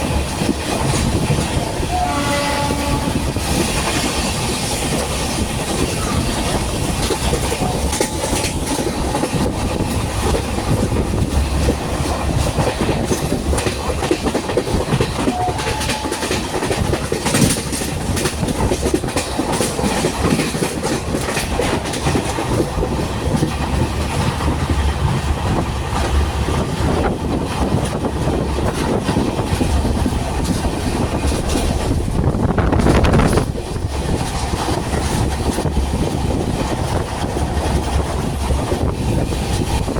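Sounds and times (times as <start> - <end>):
train rumbling at speed: 0.0 - 39.9
train wheels clattering on rails: 0.0 - 39.9.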